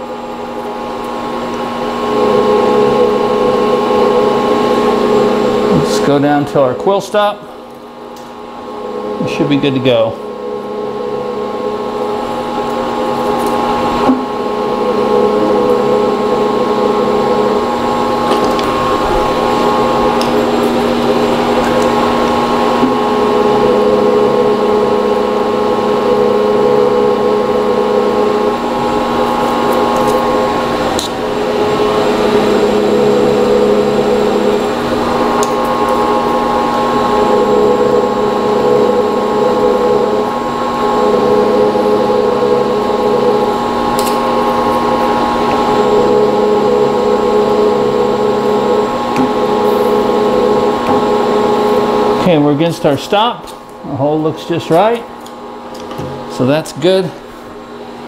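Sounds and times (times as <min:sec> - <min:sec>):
milling machine gear whine: 0:00.0 - 0:58.0.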